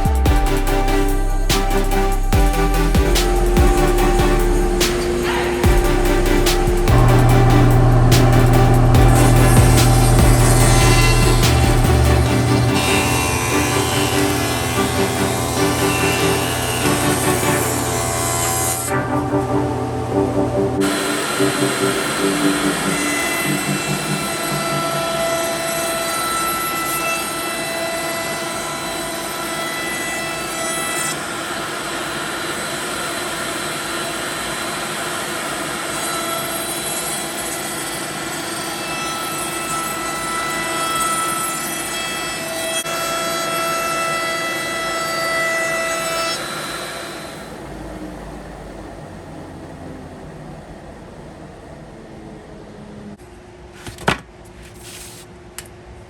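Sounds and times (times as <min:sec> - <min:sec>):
router carving wood: 0:01.5 - 0:49.0.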